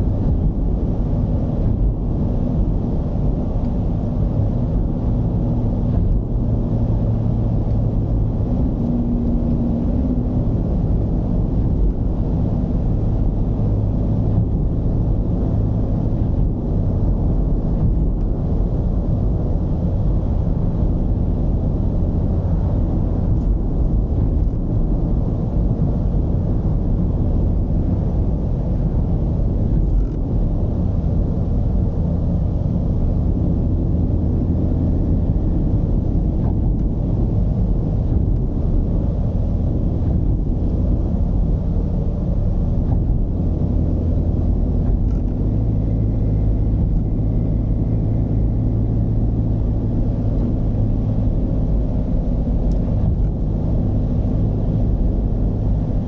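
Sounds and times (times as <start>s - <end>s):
diesel van engine rumble: 0.0s - 56.0s
road noise: 0.0s - 56.0s.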